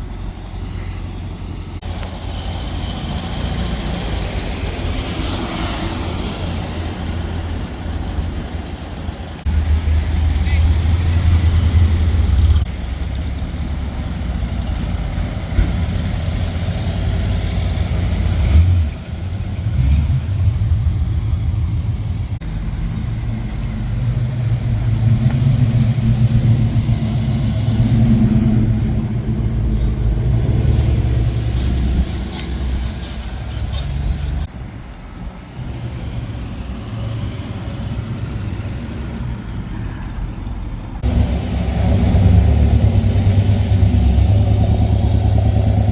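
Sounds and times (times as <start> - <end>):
car engines passing: 0.0 - 45.9.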